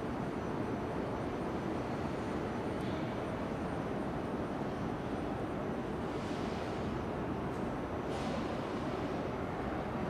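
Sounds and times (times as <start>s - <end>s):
train rumbling slowly: 0.0s - 10.0s.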